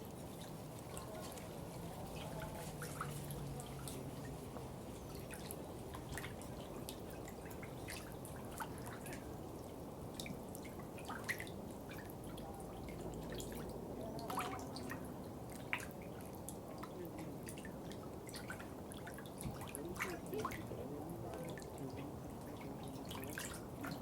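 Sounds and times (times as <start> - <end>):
running water burbling: 0.0 - 24.0
water dripping: 0.0 - 24.0.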